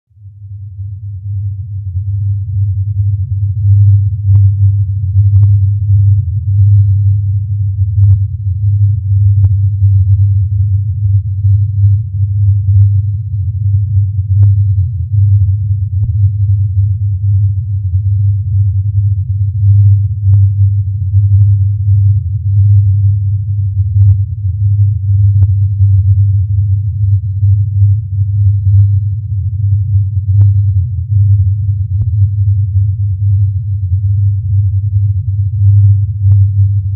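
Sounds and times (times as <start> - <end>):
low droning hum: 0.2 - 36.9.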